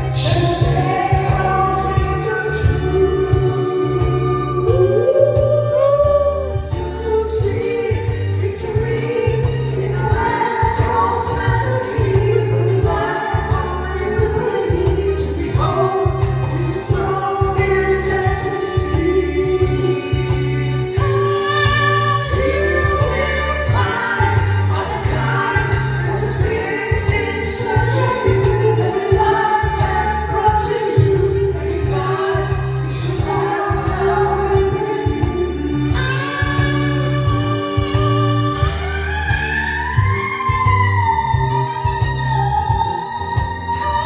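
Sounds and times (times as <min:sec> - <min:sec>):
singing over pulsing bass beat: 0:00.0 - 0:44.0.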